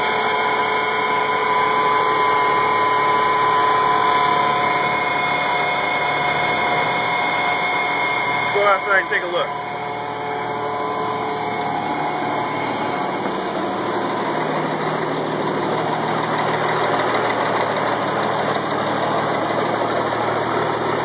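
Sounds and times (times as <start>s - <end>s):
truck diesel engine idling: 0.0s - 21.0s.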